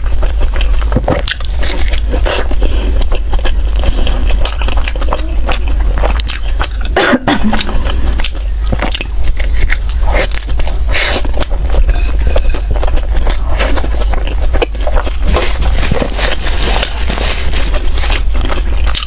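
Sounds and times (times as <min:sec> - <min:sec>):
chewing and biting bread: 0:00.0 - 0:19.0
steady low hum: 0:00.0 - 0:19.0.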